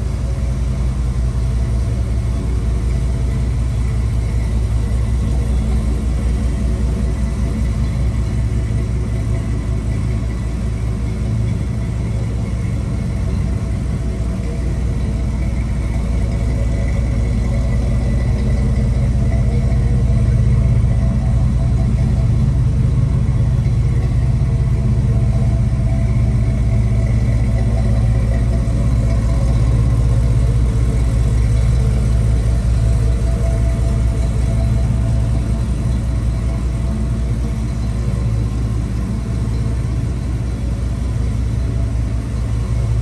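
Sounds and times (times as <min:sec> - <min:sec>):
pickup truck engine idling: 0:00.0 - 0:43.0.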